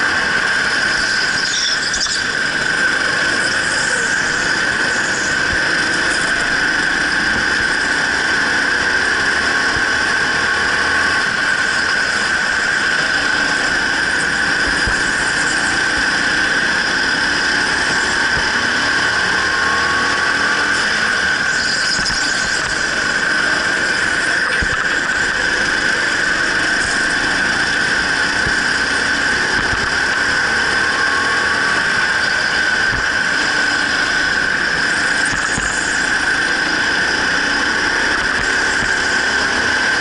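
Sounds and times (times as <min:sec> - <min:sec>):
go-kart engine whine: 0:00.0 - 0:40.0.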